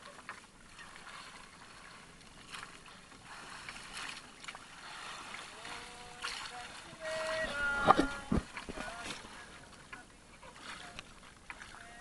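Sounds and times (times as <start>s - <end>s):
water splashing and dripping: 0.0s - 12.0s
wet net hauled over boat side: 0.0s - 12.0s.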